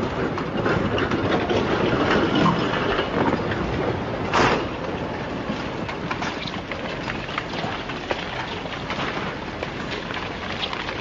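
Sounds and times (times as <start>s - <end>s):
earth and rock sliding: 0.0s - 11.0s.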